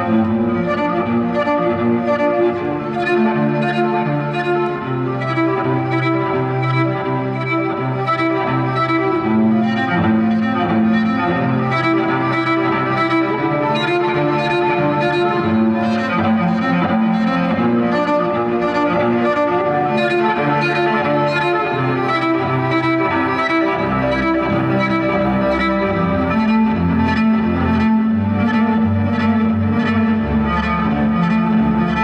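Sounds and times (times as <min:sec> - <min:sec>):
cello bowed sustained notes: 0:00.0 - 0:32.0.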